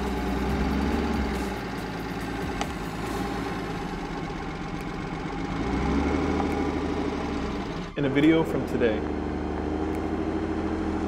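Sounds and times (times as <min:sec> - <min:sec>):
rapid engine ticking: 0:00.0 - 0:09.6
car engine idling: 0:00.0 - 0:11.0.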